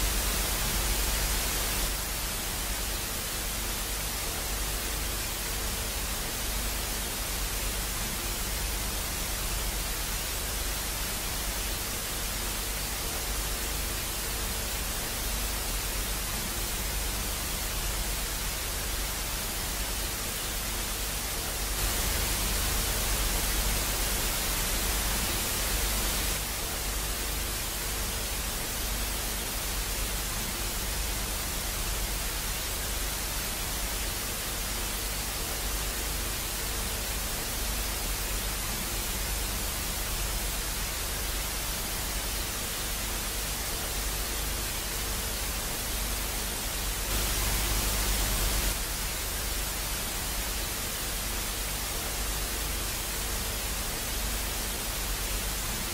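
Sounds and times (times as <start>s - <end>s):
hissing static: 0.0s - 55.9s.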